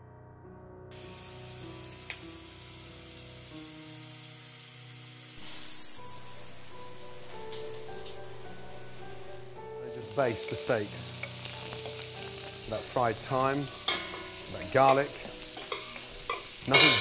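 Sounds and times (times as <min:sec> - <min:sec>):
soft background music: 0:00.0 - 0:17.0
steady hiss: 0:00.9 - 0:17.0.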